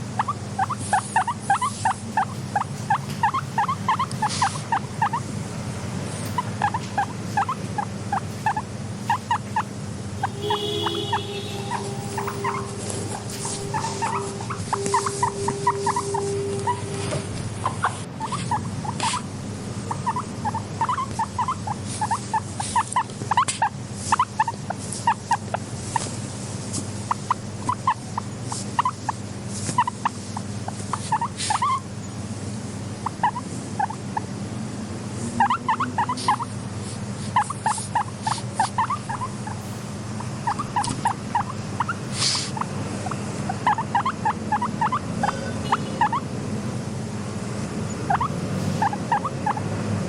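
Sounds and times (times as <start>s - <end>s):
guinea pigs squeaking: 0.0s - 32.2s, 32.8s - 34.3s, 35.2s - 46.3s, 47.9s - 49.7s
steady low hum: 0.0s - 50.0s.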